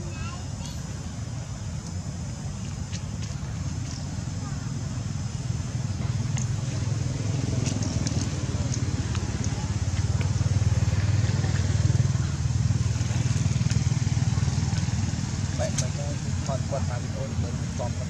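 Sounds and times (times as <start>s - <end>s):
engine running: 0.7s - 18.0s.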